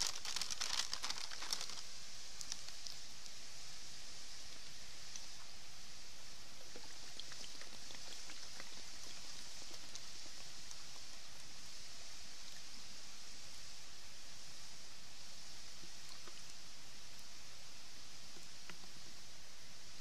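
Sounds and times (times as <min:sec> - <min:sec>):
faint fire crackles: 0:00.0 - 0:20.0.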